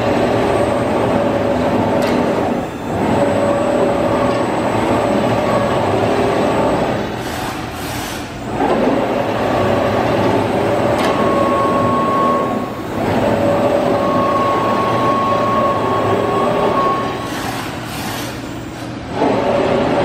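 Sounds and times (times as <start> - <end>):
cnc router running: 0.0 - 20.0.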